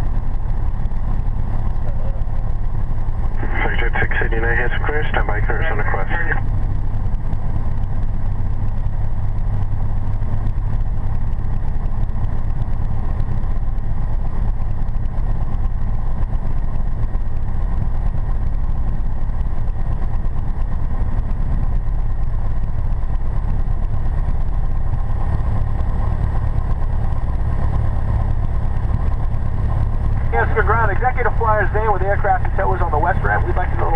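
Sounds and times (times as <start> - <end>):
propeller aircraft engine drone: 0.0 - 33.9.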